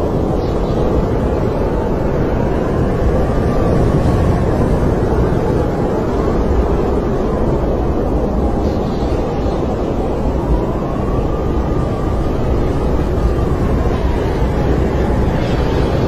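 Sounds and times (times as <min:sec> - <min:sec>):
wind blowing: 0:00.0 - 0:16.0
wind whistling: 0:00.0 - 0:16.0.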